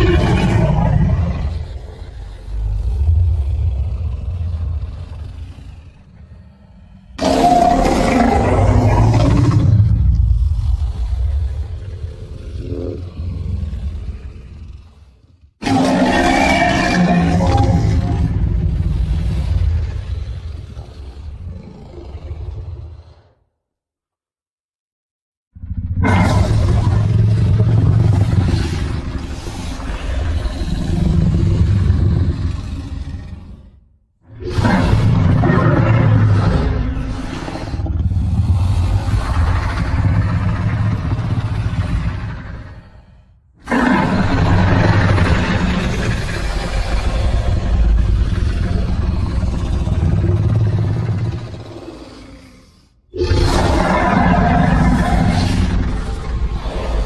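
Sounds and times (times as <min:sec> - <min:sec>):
dinosaur rattling growl: 0:00.0 - 0:23.4, 0:25.6 - 0:57.0.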